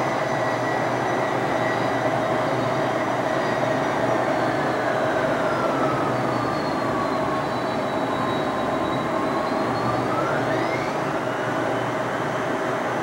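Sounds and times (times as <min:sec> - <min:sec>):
jet engine whine: 0:00.0 - 0:13.0
jet engines roaring: 0:00.0 - 0:13.0.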